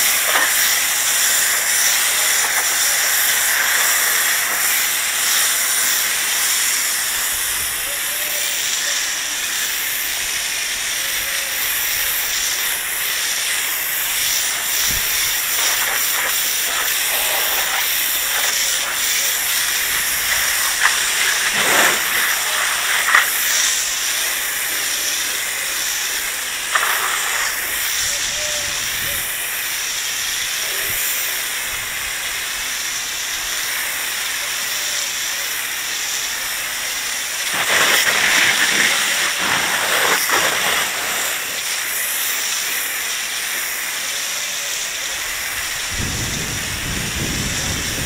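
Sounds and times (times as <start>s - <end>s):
pressure washer spraying on slabs: 0.0s - 48.0s.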